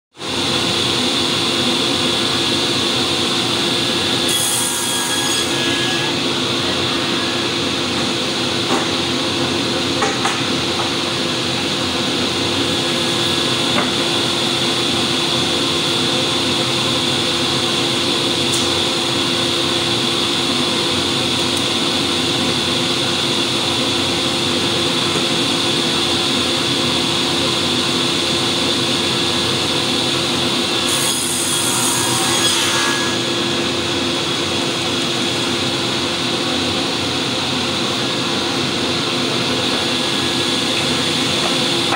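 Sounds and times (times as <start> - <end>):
panel saw humming and whining: 0.2 - 41.9.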